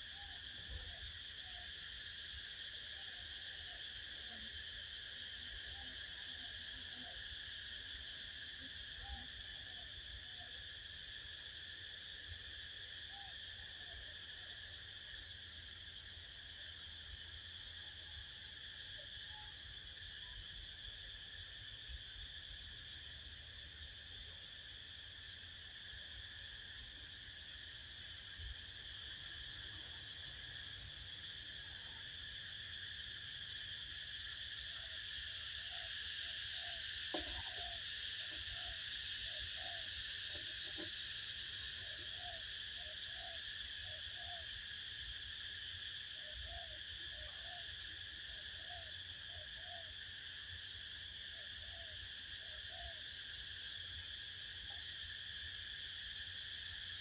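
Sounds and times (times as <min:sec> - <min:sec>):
high insect chorus: 0:00.0 - 0:57.0.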